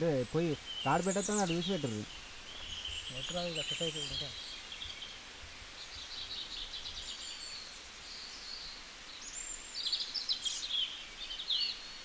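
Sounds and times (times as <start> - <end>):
small birds chirping and trilling: 0.0 - 12.0
steady outdoor hiss: 0.0 - 12.0.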